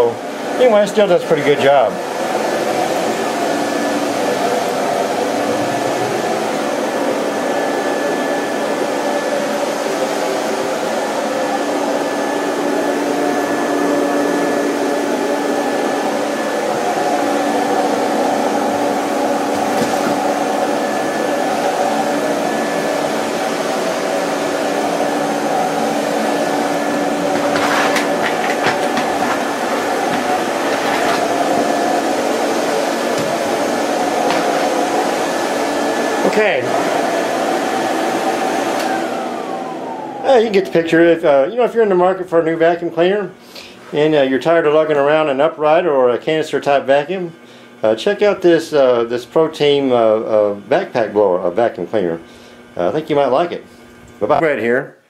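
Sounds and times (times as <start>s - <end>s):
vacuum cleaner running: 0.0s - 54.8s.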